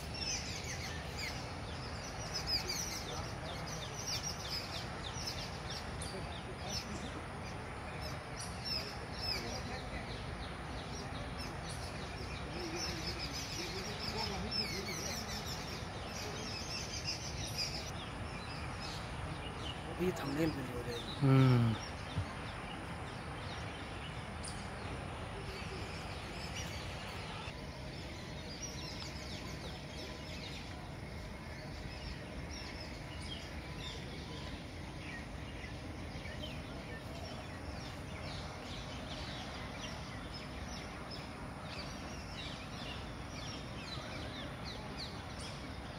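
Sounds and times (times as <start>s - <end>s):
birds chirping: 0.0s - 45.9s
low outdoor background noise: 0.0s - 45.9s.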